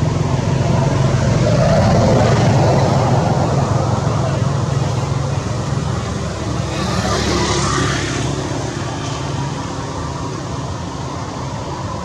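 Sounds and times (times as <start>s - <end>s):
traffic noise with engine hum: 0.0s - 12.0s.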